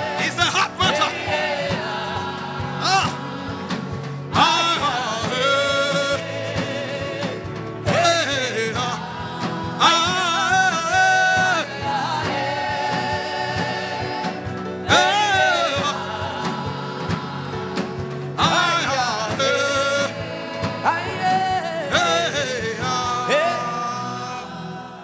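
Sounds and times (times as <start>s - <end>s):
sustained instruments with beat: 0.0s - 25.0s.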